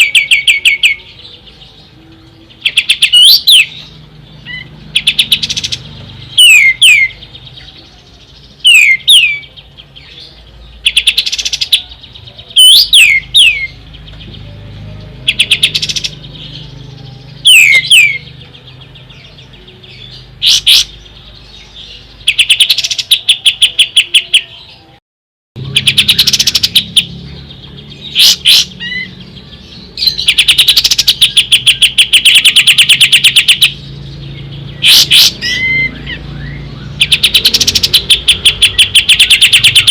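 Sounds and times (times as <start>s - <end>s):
bird singing trills and whistles: 0.0s - 25.0s, 25.6s - 39.9s.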